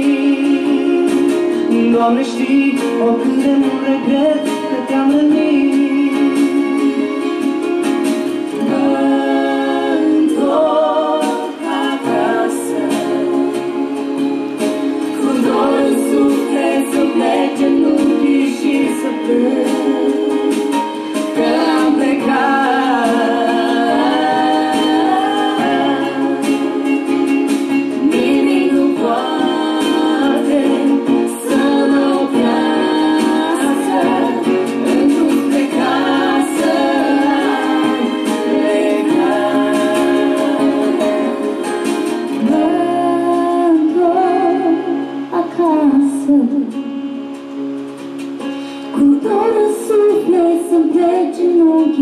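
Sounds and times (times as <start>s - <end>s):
man singing: 0.0s - 7.5s, 8.6s - 14.0s, 15.1s - 26.9s, 28.0s - 45.1s
woman singing: 0.0s - 7.7s, 8.5s - 47.3s, 48.7s - 52.0s
instrumental accompaniment: 0.0s - 52.0s.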